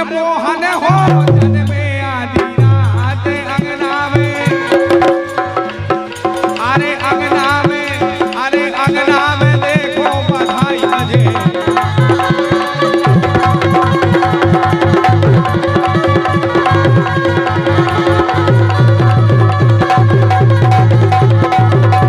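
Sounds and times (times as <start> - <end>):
fast hand-drum rhythm: 0.0 - 22.0.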